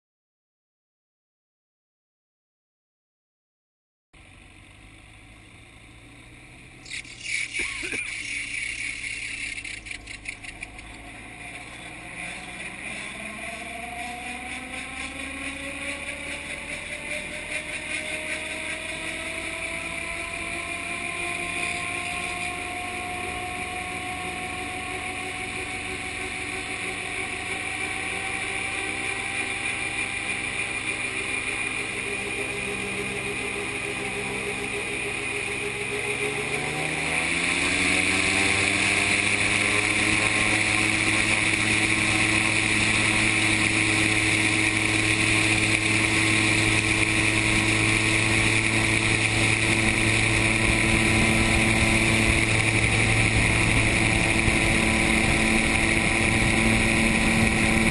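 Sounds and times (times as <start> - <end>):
gyrocopter engine running: 4.2 - 57.9.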